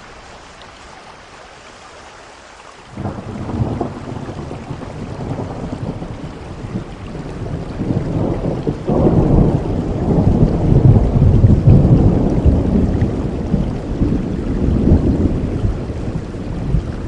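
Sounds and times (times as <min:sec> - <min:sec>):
steady rainfall: 0:00.0 - 0:17.0
thunder rumble: 0:03.0 - 0:17.0.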